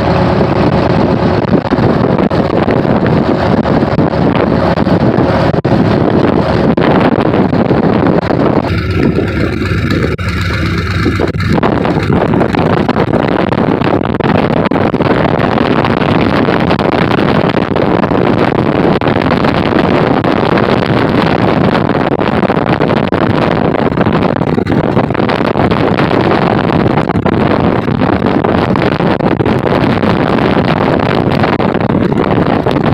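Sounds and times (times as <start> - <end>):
twin piston aircraft engines: 0.0 - 32.9
wind buffeting microphone: 0.0 - 32.9.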